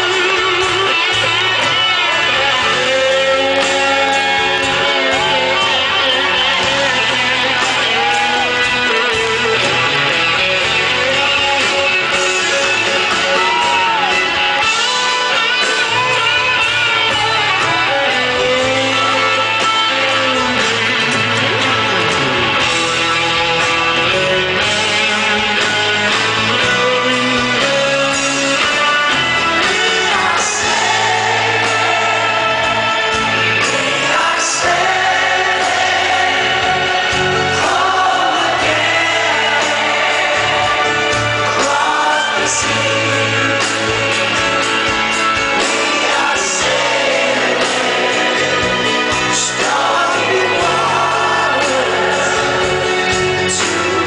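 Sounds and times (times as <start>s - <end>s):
people singing: 0.0s - 16.0s, 26.0s - 54.0s
electric guitar lead: 0.0s - 54.0s
live rock band playing: 0.0s - 54.0s.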